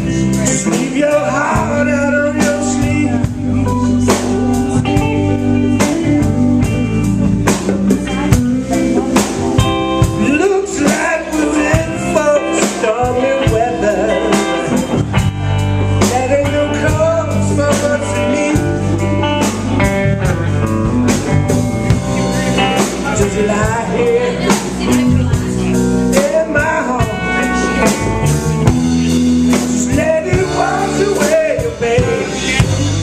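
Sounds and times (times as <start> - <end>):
bass guitar: 0.0 - 33.0
lead guitar with bending notes: 0.0 - 33.0
steady drum beat: 0.0 - 33.0.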